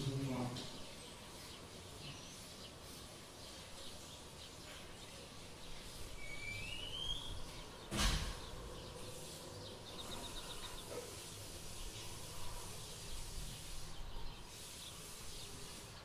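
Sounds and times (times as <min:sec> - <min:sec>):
high rising chirp: 0:00.7 - 0:15.9.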